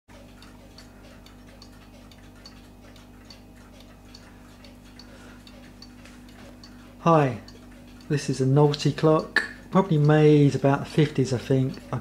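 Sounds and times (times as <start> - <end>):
wall clock ticking: 0.1 - 12.0.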